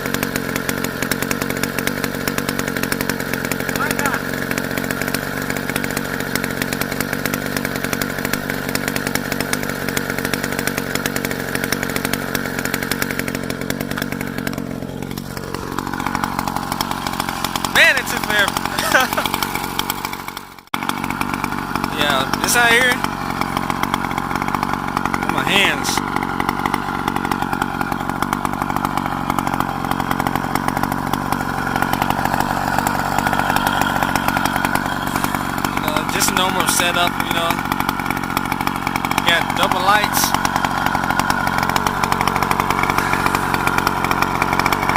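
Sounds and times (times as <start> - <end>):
small two-stroke engine running: 0.0 - 44.9.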